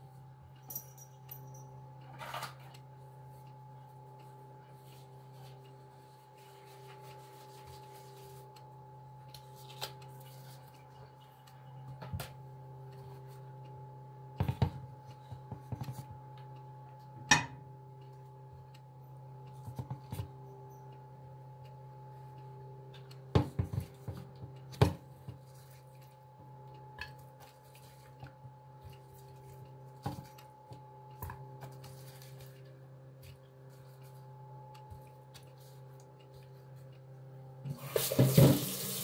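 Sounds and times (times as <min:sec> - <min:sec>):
steady low hum: 0:00.0 - 0:37.8.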